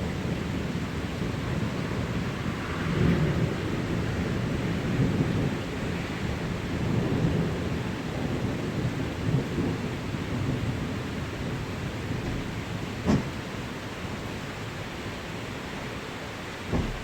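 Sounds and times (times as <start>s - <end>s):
heavy rain: 0.0s - 17.0s
low rumbling thunder: 0.1s - 17.0s.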